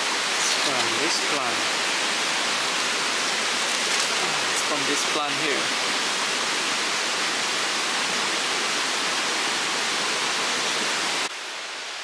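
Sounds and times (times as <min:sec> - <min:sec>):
rainforest rushing hiss: 0:00.0 - 0:12.0.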